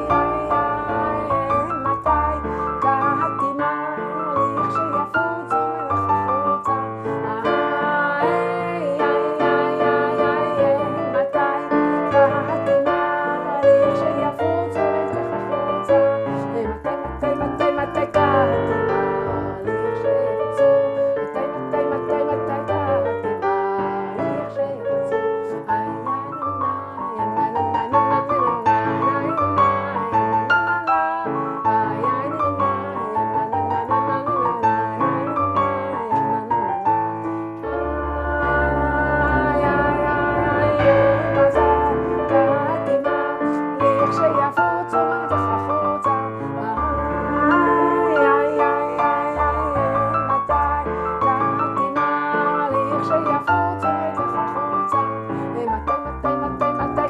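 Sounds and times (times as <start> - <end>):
piano melody over chords: 0.0 - 57.0.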